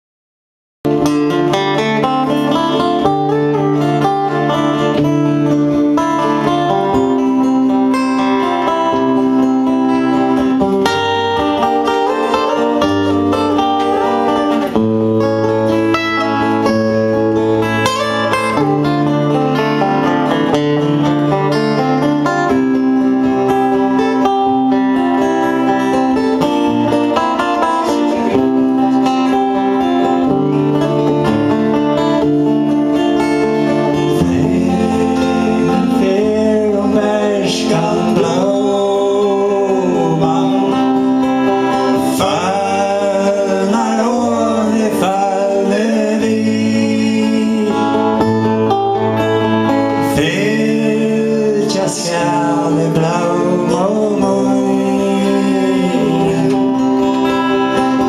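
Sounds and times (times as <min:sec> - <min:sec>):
guitars playing chords: 0:00.8 - 0:58.0.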